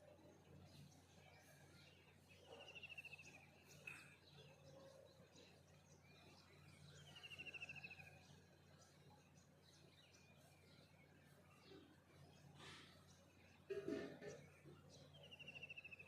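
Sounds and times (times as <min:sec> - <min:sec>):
bird singing rapid trill: 0:00.0 - 0:13.6, 0:14.5 - 0:16.0
birds chirping faintly: 0:00.0 - 0:16.0.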